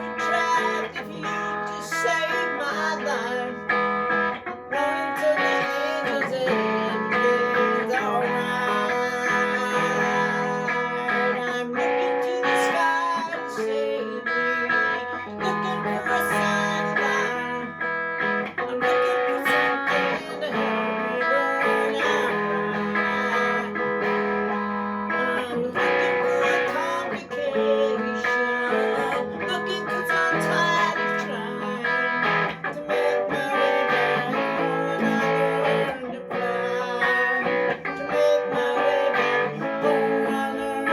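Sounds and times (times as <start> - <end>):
guitar plucked and strummed: 0.0 - 40.9.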